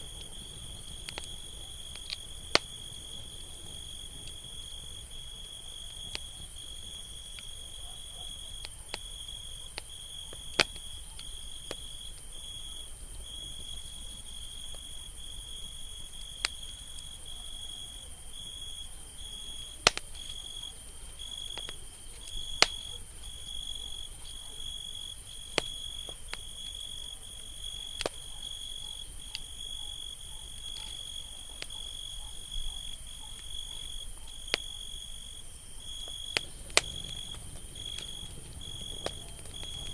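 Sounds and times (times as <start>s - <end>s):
campfire crackling: 0.0s - 39.9s
cricket trilling: 0.0s - 39.9s.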